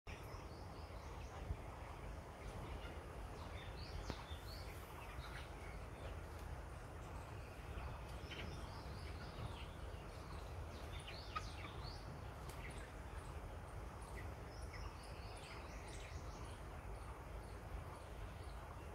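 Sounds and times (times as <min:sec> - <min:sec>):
chicks peeping: 0:00.1 - 0:18.9.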